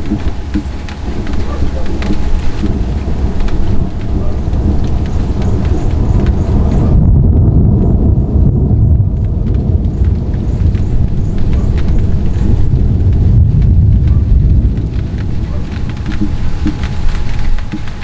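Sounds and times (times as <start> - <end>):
rain falling: 0.0 - 18.0
thunder rumbling: 0.0 - 18.0.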